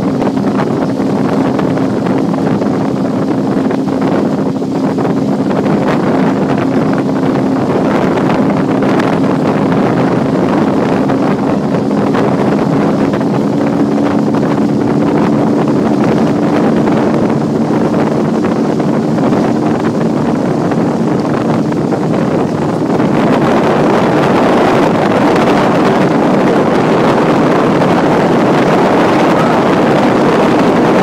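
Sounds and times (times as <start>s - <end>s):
outboard motor humming: 0.0s - 31.0s
wind buffeting microphone: 0.0s - 31.0s.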